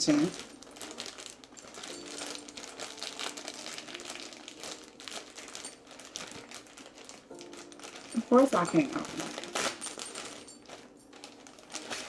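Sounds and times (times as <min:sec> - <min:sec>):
packaging rustling and crackling: 0:00.0 - 0:12.0.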